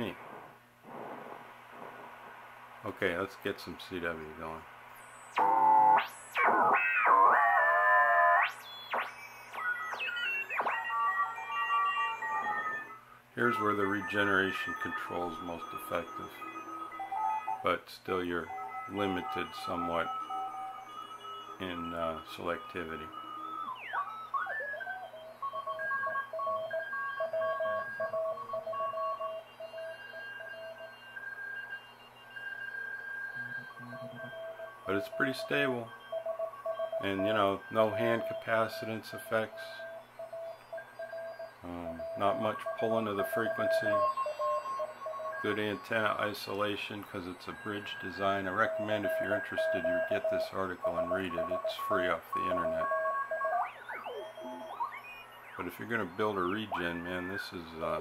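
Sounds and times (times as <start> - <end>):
morse code beeps: 4.3 - 58.0
radio whistling beat tones: 5.0 - 17.6, 18.4 - 58.0.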